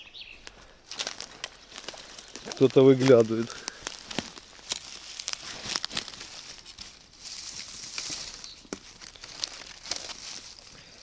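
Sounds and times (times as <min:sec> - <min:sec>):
pine needles and twigs crunching: 0:00.0 - 0:11.0
small sticks snapping: 0:00.4 - 0:10.7.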